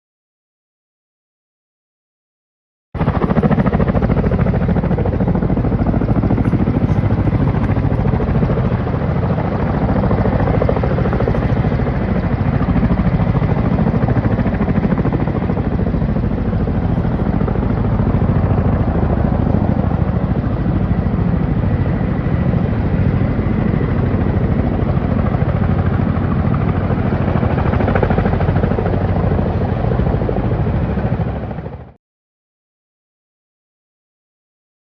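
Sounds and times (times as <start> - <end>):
helicopter rotor and engine: 3.0 - 32.0.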